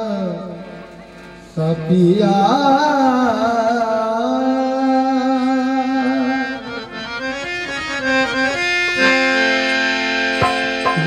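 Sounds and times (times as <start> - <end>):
harmonium playing: 0.0 - 11.0.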